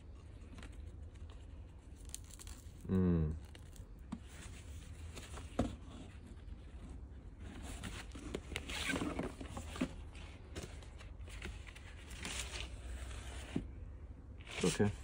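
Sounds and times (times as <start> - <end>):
cardboard and paper rustling: 0.0 - 2.8, 3.5 - 13.7, 14.4 - 15.0.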